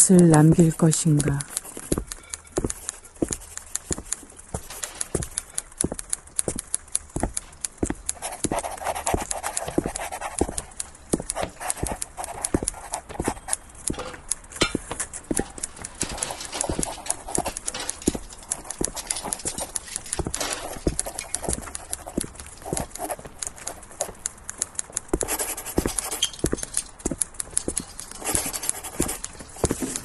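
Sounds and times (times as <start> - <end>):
faint steady noise: 0.0 - 30.0
sharp clacks and knocks: 0.0 - 30.0.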